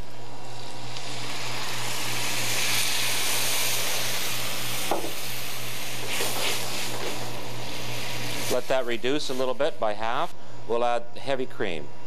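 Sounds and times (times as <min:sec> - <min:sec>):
wine sizzling in hot pan: 0:00.0 - 0:10.3.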